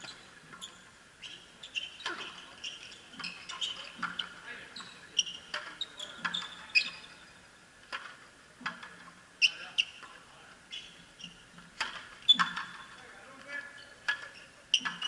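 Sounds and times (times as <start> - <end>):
shoes squeaking on court floor: 0.0 - 7.3, 8.7 - 15.0.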